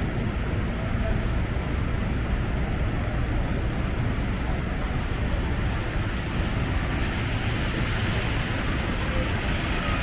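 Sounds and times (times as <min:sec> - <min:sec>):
low traffic rumble: 0:00.0 - 0:10.0.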